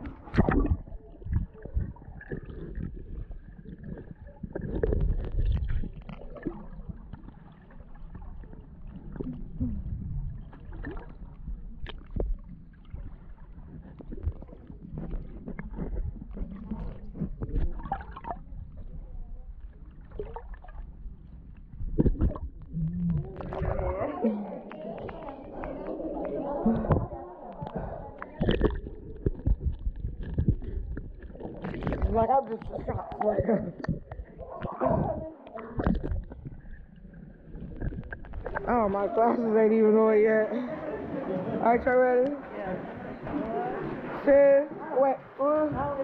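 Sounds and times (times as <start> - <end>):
muffled underwater rumbling: 0.0 - 46.0
underwater bubbling: 0.0 - 46.0.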